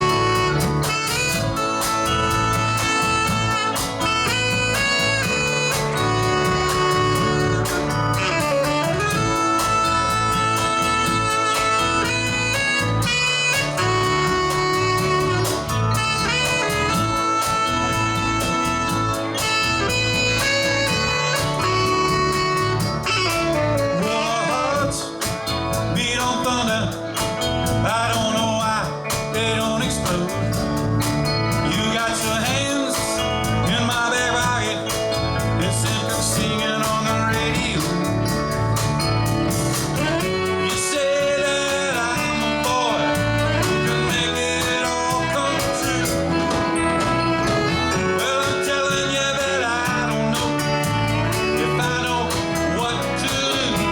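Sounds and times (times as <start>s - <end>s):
drums steady beat: 0.0s - 53.9s
guitar and bass: 0.0s - 53.9s
lead instrument held notes: 0.0s - 53.9s.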